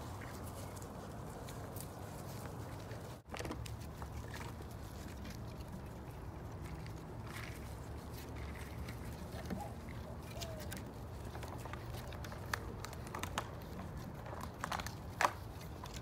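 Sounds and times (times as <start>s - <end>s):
puppies pattering on grass: 0.0s - 16.0s.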